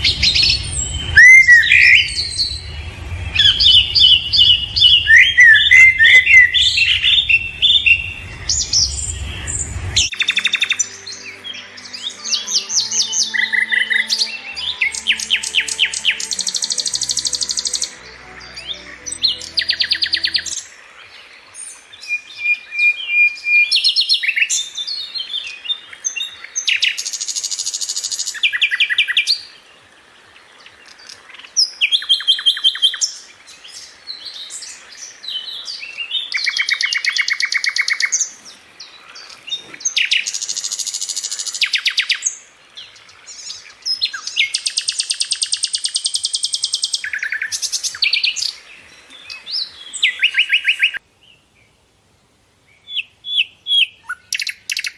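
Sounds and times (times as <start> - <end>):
songbirds chirping and trilling: 0.0 - 51.8.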